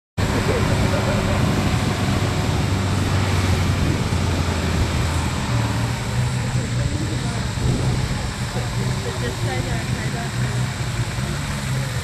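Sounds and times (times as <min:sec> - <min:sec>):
truck engine running under load: 0:00.2 - 0:12.0.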